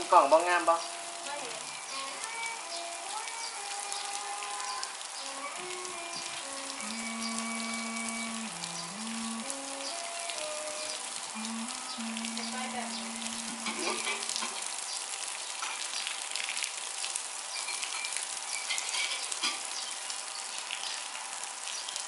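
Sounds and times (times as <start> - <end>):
rain pattering on grass: 0.0 - 22.0.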